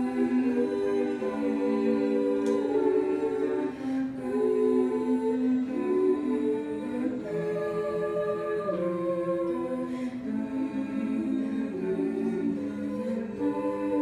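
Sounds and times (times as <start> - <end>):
a cappella group singing harmony: 0.0 - 14.0.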